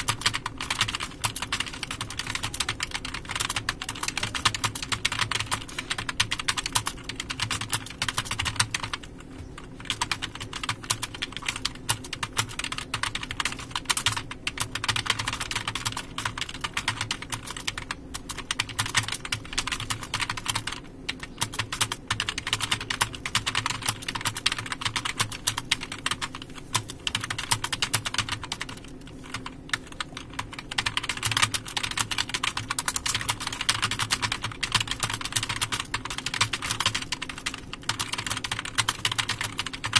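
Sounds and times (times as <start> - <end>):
fast keyboard typing: 0.0 - 39.9
low steady hum: 0.0 - 39.9.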